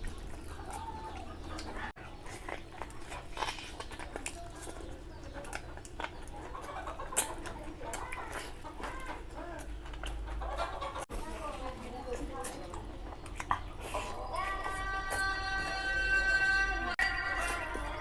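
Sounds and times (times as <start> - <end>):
chewing with wet mouth smacks: 0.0 - 15.8.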